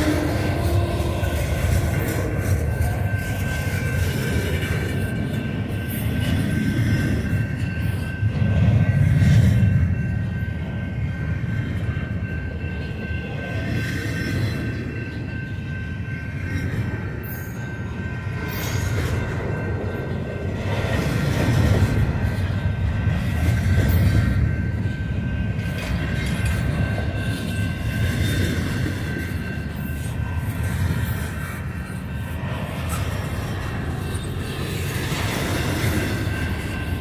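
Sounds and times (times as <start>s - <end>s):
high ringing tones: 0.0s - 37.0s
train wheels rumbling on rail: 0.0s - 37.0s.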